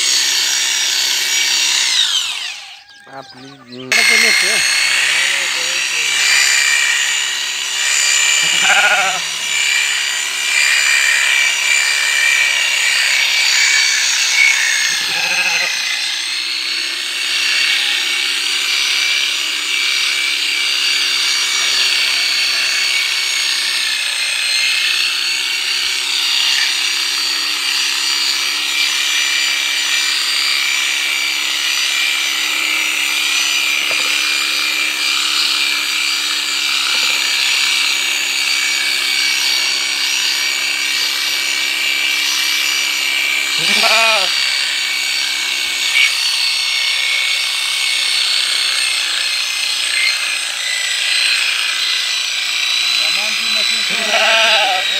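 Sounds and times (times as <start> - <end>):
electric shearing clipper running: 0.0 - 54.9.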